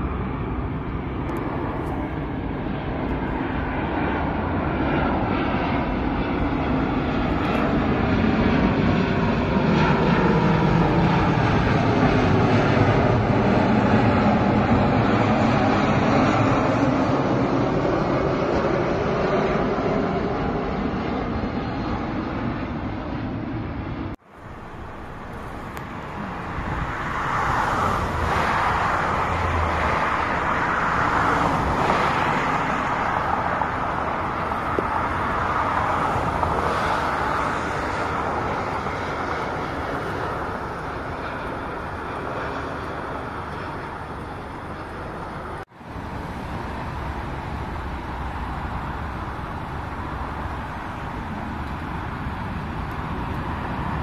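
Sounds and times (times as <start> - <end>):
jet airliner engine roar: 0.0 - 54.0.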